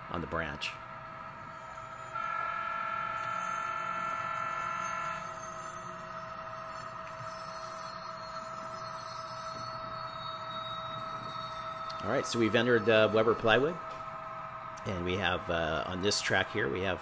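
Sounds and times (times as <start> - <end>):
model train electric hum: 0.7 - 17.0.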